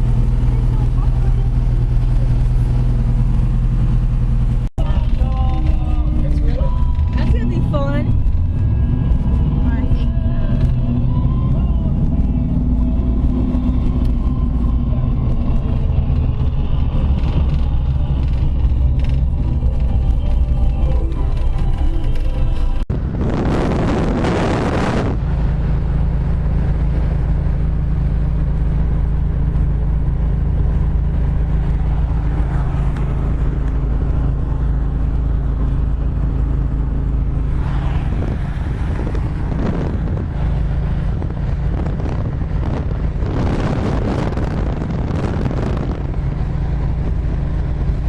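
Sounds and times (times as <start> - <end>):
car engine droning: 0.0 - 48.0
wind buffeting microphone: 0.0 - 48.0.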